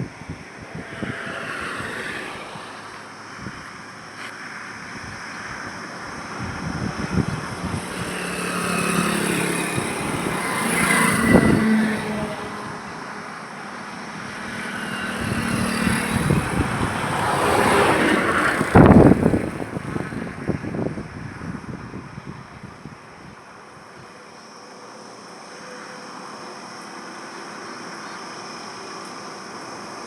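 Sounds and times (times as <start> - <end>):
highway traffic passing: 0.0 - 30.0.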